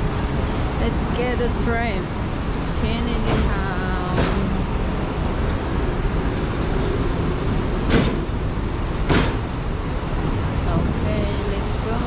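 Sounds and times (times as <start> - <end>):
tram rumbling on track: 0.0 - 12.0.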